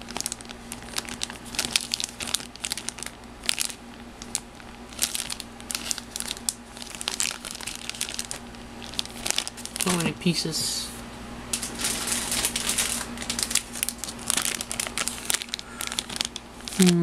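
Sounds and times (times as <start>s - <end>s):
plastic bag crinkling: 0.0s - 10.7s, 11.5s - 17.0s.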